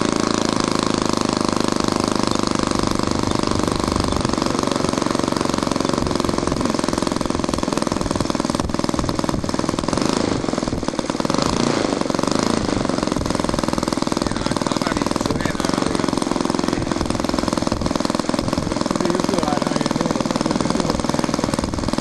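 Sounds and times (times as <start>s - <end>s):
piston aircraft engine running: 0.0s - 22.0s.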